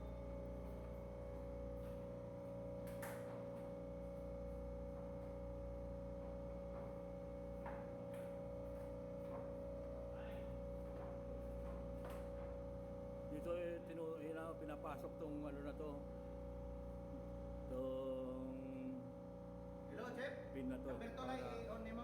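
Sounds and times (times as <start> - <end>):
hydraulic pump machinery hum: 0.0 - 22.0.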